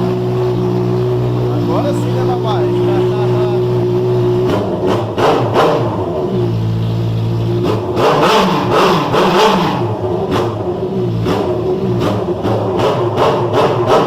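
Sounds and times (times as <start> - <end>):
loud motorcycle engine revving: 0.0 - 14.0.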